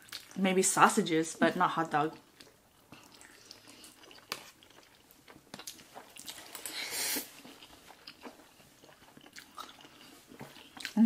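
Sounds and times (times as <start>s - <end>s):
wet chewing and mouth clicks: 0.0s - 0.4s, 2.2s - 11.0s.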